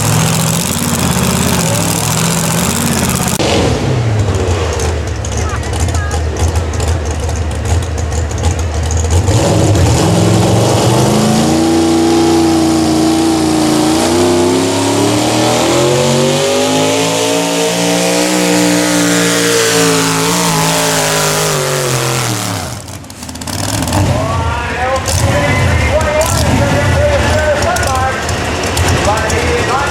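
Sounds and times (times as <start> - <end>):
truck engine at full revs: 0.0 - 29.9.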